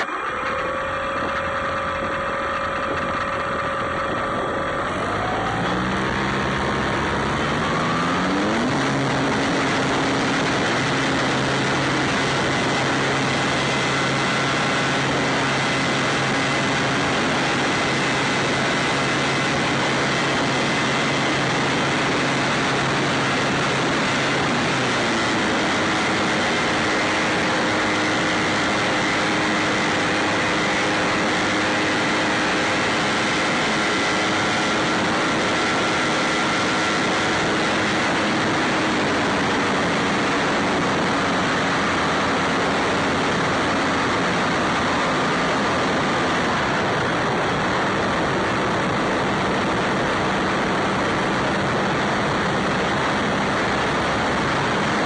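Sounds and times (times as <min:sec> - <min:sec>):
electric motor whine: 0:00.0 - 0:55.0
propeller and air rush: 0:00.0 - 0:55.0.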